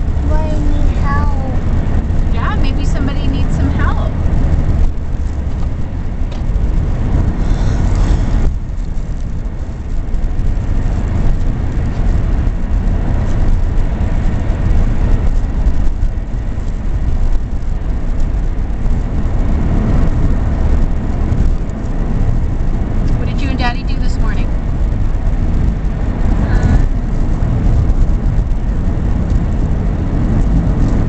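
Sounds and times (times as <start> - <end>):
car cabin road and engine rumble: 0.0 - 31.0.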